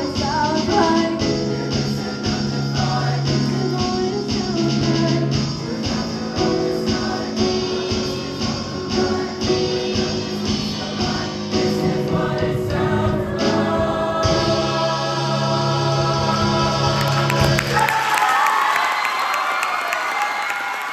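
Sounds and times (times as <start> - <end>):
vocal ensemble singing pop: 0.0 - 18.2.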